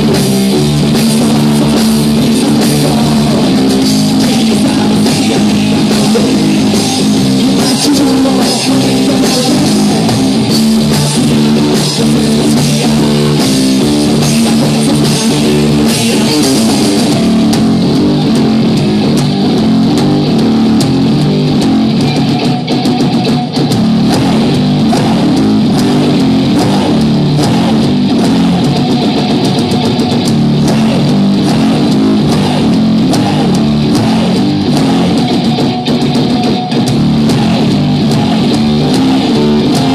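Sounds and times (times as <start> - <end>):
drum kit playing: 0.0 - 39.9
electric guitar: 0.0 - 39.9.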